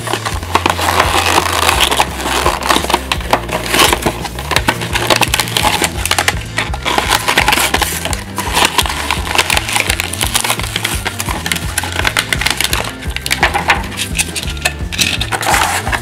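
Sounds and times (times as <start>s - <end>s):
background music: 0.0s - 16.0s
cardboard and plastic tearing: 0.0s - 16.0s.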